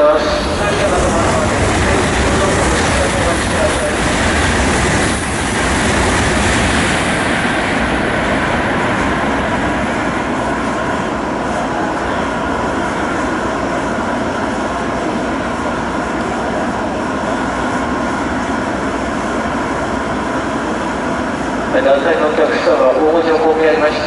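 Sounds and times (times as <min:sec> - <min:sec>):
high-speed train rushing past: 0:00.0 - 0:24.0.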